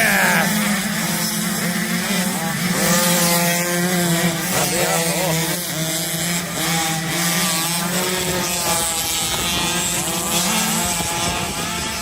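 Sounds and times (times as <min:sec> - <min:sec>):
motocross bikes revving past: 0:00.0 - 0:12.0.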